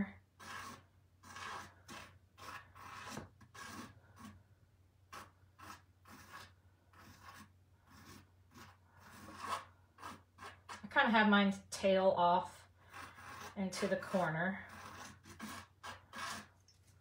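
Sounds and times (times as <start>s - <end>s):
pencil scratching on canvas: 0.0s - 4.4s, 5.1s - 11.1s, 12.8s - 17.0s.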